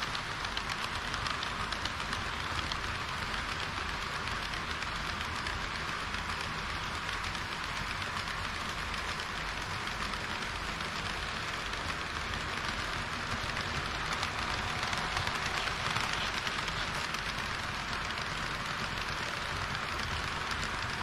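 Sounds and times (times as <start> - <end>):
model train wheels rolling on rails: 0.0 - 21.0.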